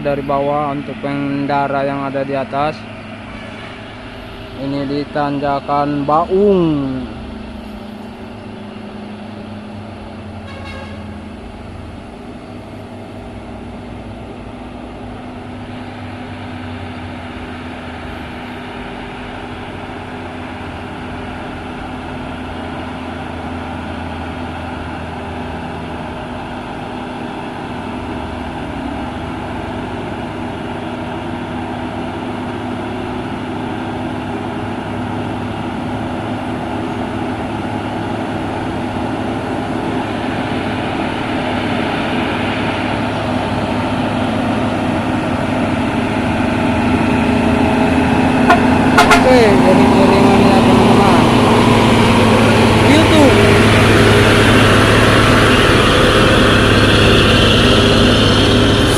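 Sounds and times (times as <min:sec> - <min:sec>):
diesel trucks labouring uphill: 0:00.0 - 0:58.9.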